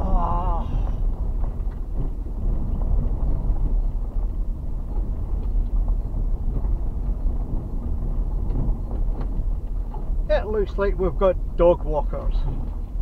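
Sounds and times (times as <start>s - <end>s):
car tyres rumbling on dirt track: 0.0s - 13.0s.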